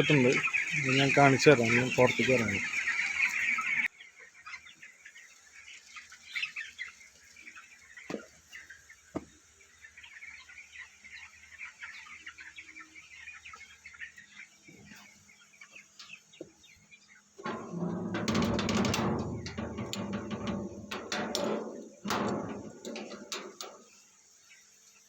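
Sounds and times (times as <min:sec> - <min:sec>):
chickens peeping and clucking: 0:00.0 - 0:25.0.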